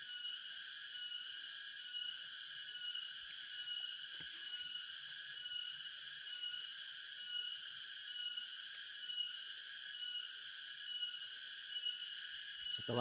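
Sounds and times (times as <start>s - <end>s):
pulsing insect chorus: 0.0s - 13.0s.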